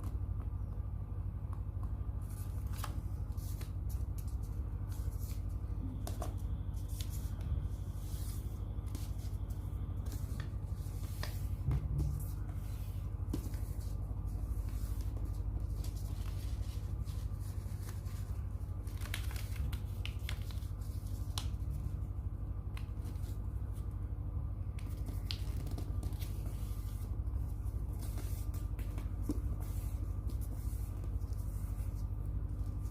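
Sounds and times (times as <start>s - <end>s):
steady low hum: 0.0s - 32.9s
paper crinkling and folding: 2.2s - 22.0s, 24.8s - 32.9s.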